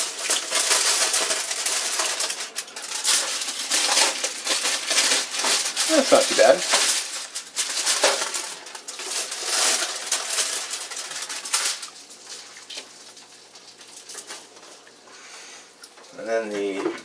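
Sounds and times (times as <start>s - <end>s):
spatula scraping foil: 0.0s - 16.8s
foil crinkling: 0.0s - 17.0s.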